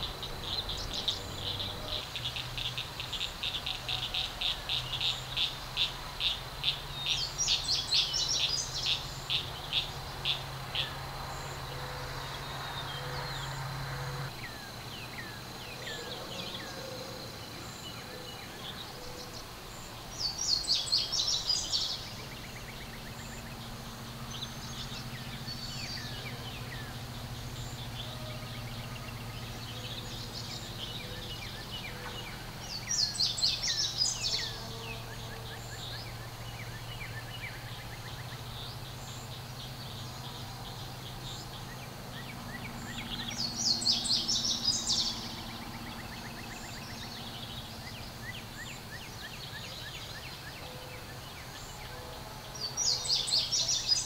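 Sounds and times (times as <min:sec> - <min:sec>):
songbird rapid high song: 0:00.0 - 0:54.0.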